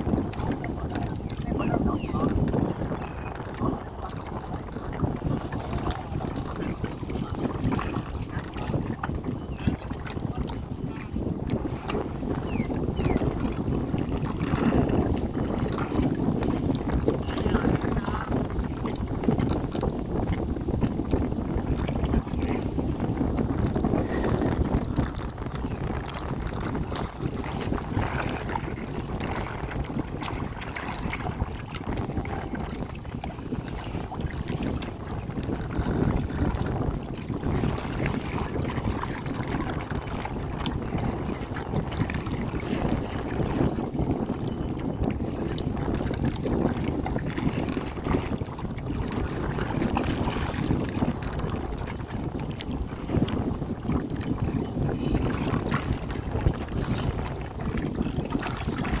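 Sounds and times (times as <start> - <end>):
boat splashes and knocks: 0.0 - 59.0
wind buffeting microphone: 0.0 - 59.0.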